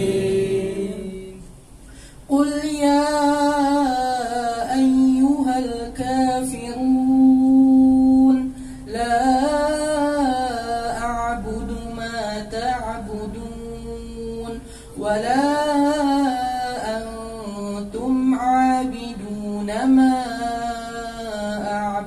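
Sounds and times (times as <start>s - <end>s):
man reciting in melodic chant: 0.0s - 1.5s, 2.3s - 22.0s.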